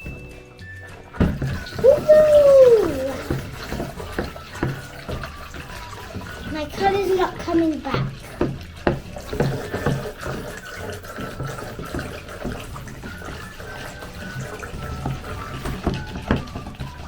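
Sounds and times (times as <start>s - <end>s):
spoon stirring wet slime: 0.7s - 17.0s.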